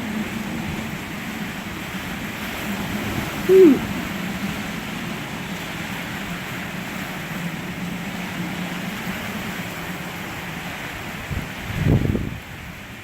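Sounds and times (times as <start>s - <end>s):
wind and rain rushing: 0.0s - 13.0s.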